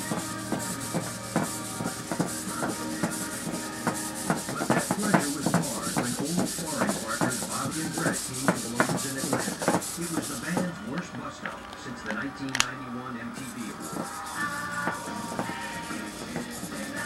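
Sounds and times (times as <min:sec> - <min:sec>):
servos whining: 0:00.0 - 0:17.0.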